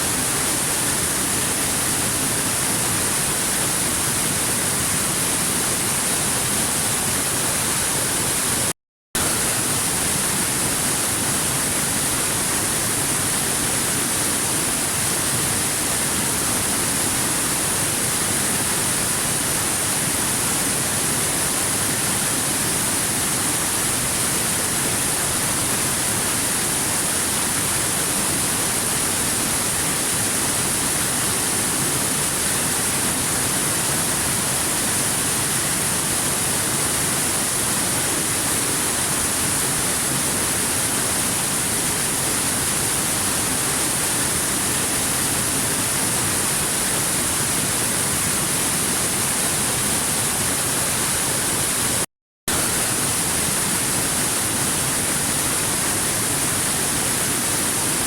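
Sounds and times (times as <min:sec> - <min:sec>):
waterfall rushing: 0:09.2 - 0:58.0.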